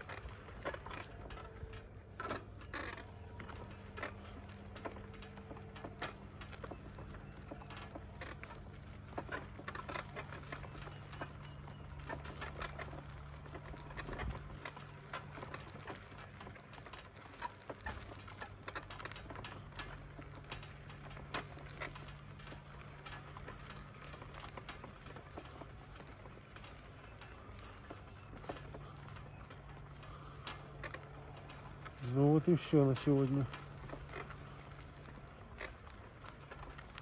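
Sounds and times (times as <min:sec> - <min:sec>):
small wheels rattling on dirt: 0:00.0 - 0:37.0.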